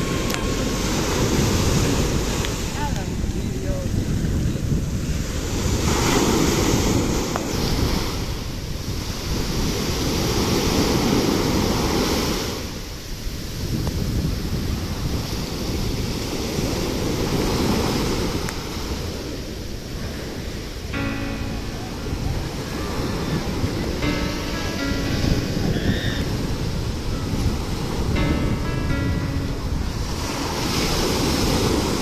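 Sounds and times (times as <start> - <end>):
sea waves washing in: 0.0 - 32.0
wind buffeting microphone: 0.0 - 32.0.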